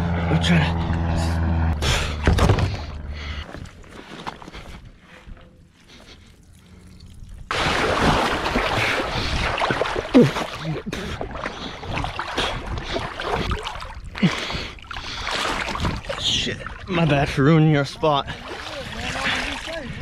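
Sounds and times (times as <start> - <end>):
water sloshing and splashing: 2.1 - 20.0.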